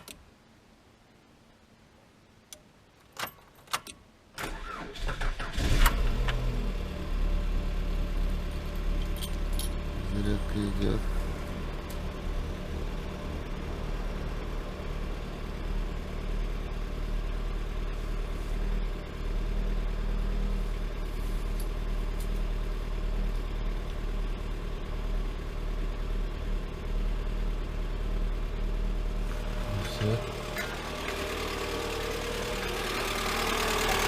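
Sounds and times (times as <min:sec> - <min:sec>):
car engine idling: 0:06.0 - 0:34.0.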